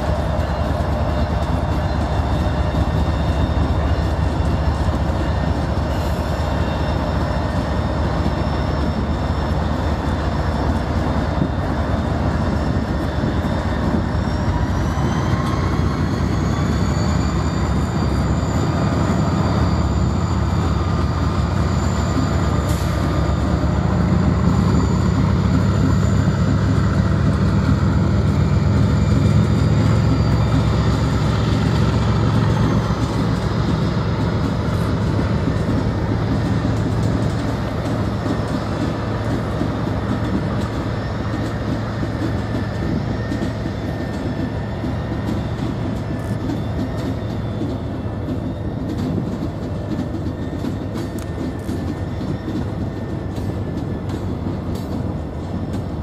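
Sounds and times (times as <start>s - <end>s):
diesel locomotive engines running: 0.0s - 56.0s
train wheels rolling on rails: 0.0s - 56.0s.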